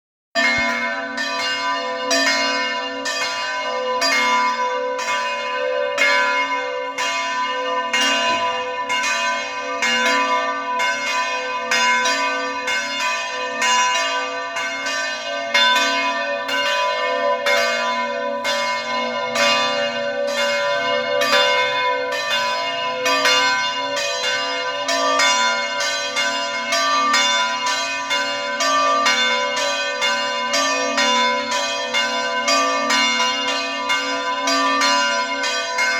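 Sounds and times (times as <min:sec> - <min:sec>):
church bells pealing: 0:00.4 - 0:35.9.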